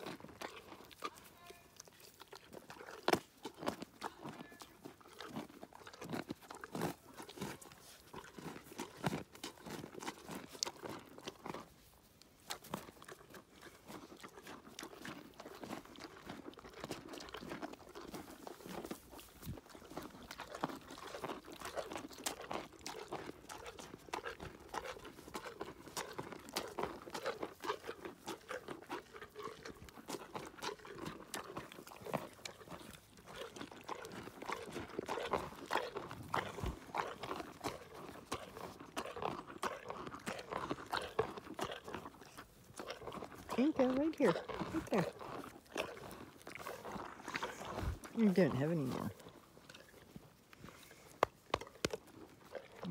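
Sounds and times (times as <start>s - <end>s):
pony crunching carrots: 0.0s - 52.9s.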